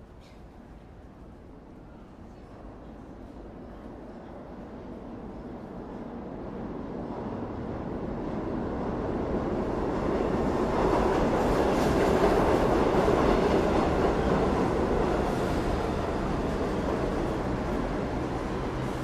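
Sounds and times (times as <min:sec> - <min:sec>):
subway train rumbling on rails: 0:00.0 - 0:19.0.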